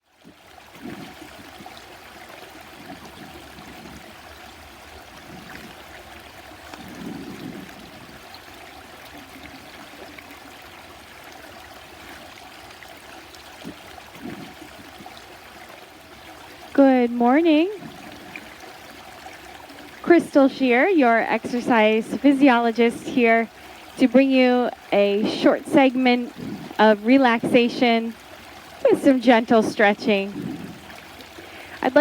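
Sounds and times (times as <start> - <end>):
stream babbling: 0.0 - 32.0.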